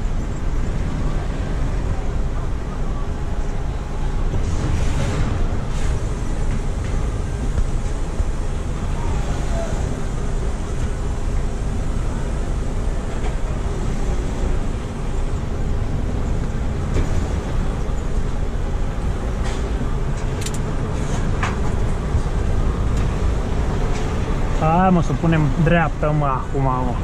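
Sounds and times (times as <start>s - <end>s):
truck diesel engine running: 0.0s - 27.0s.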